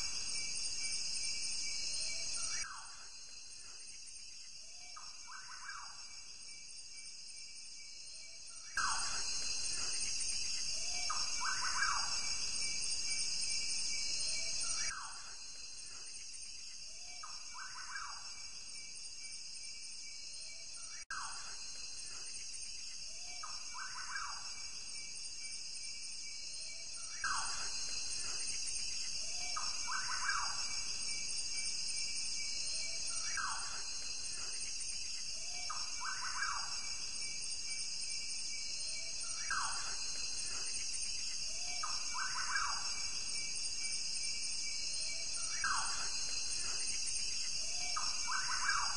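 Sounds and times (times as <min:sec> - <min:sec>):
insects chorus: 0:00.0 - 0:48.9.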